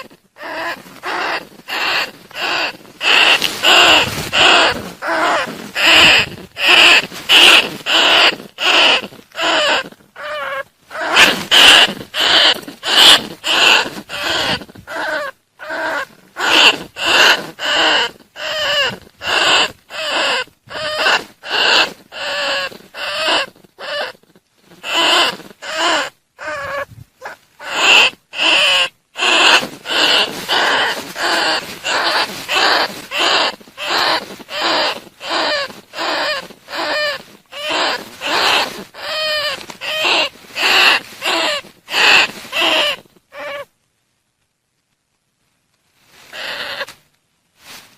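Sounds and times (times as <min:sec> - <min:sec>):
rat calls: 0:00.0 - 0:43.7, 0:46.3 - 0:47.0.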